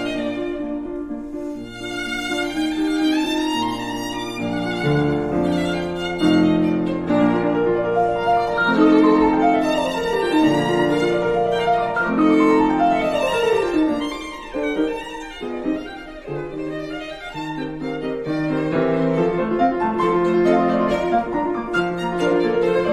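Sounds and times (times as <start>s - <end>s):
violin-led background music: 0.0s - 22.9s.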